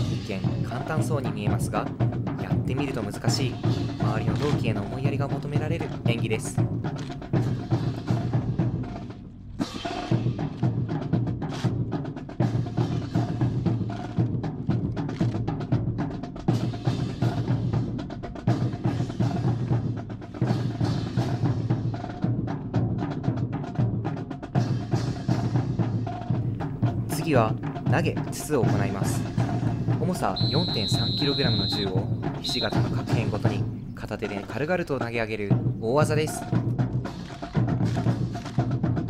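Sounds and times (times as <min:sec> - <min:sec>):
marching drums playing cadence: 0:00.0 - 0:39.0.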